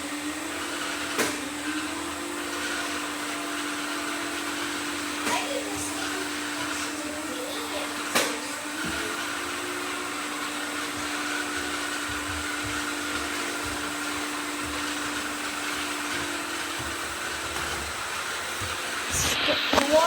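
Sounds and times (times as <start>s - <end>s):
robot vacuum cleaners whirring: 0.0s - 20.0s.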